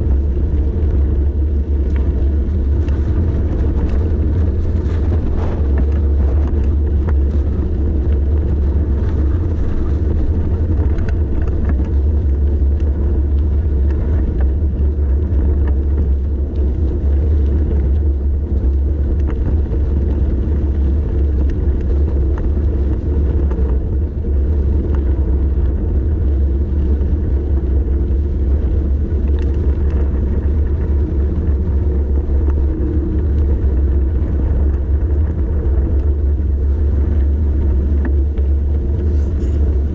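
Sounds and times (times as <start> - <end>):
tyres rolling on road: 0.0 - 39.9
wind buffeting microphone: 0.0 - 39.9.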